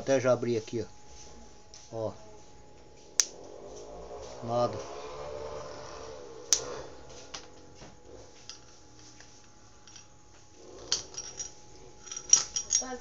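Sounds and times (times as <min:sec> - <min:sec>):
fan motor faint hum: 0:00.0 - 0:13.0.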